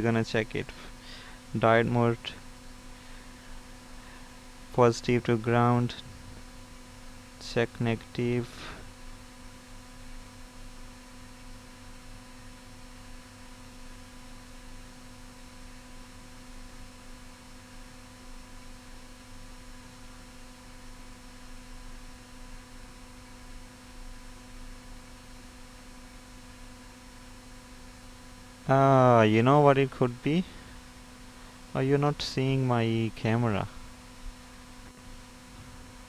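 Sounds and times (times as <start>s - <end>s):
electrical mains hum: 0.0s - 36.0s.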